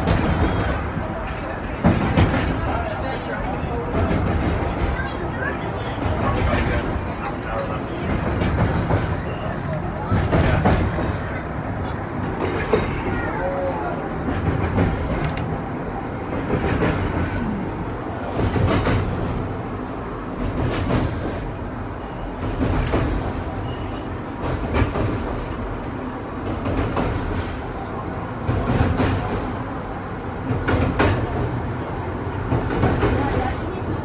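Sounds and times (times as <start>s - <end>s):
streetcar wheels and motor rumble: 0.0s - 34.0s.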